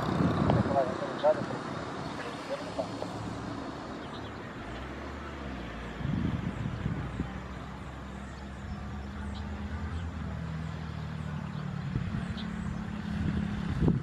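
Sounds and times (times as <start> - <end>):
distant jet engine drone: 0.0 - 14.0.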